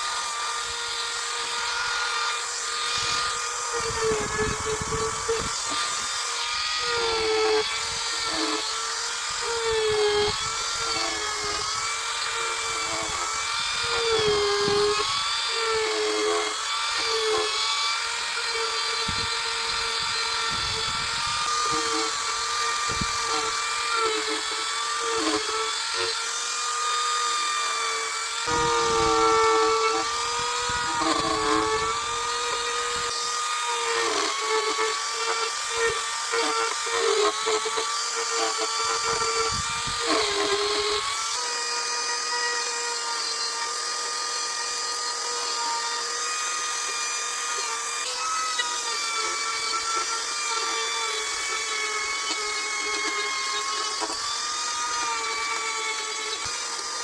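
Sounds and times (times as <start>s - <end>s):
carving tool rasping into wood: 0.0s - 57.0s
power carving tool whining: 0.0s - 57.0s.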